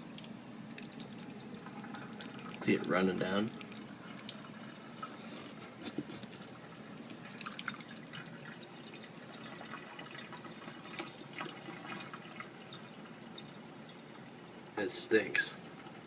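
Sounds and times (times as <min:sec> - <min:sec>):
liquid dripping: 0:00.0 - 0:16.0.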